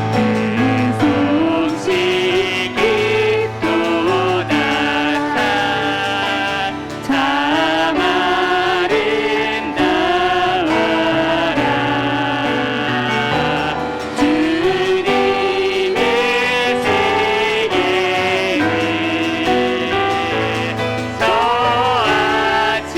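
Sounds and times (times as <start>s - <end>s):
group singing praise song: 0.0s - 22.9s
piano accompaniment: 0.0s - 22.9s.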